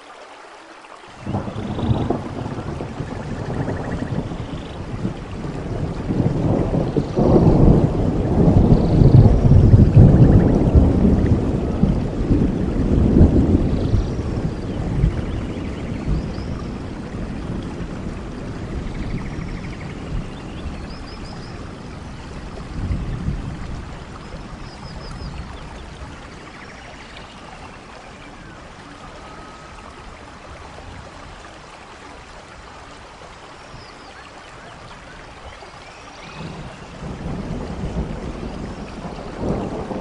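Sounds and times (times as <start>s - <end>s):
heavy rain: 0.0s - 40.0s
rough sea: 1.1s - 40.0s
storm wind: 1.1s - 40.0s.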